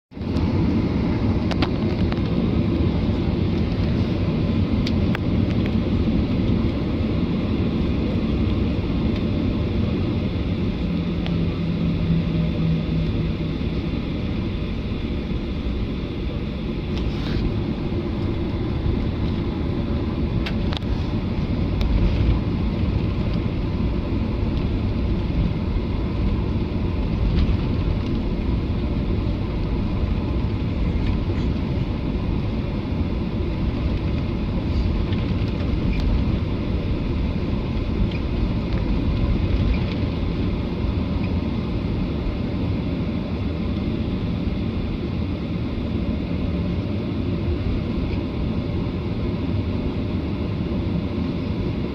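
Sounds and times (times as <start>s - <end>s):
jet engine and airflow rumble: 0.0s - 51.9s.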